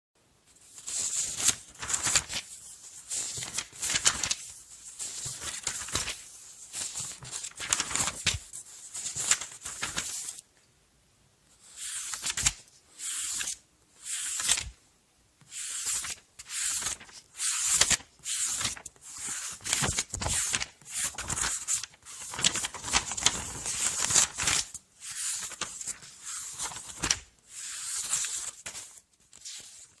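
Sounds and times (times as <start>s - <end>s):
paper pages turning: 0.6s - 10.4s, 11.6s - 14.7s, 15.4s - 30.0s.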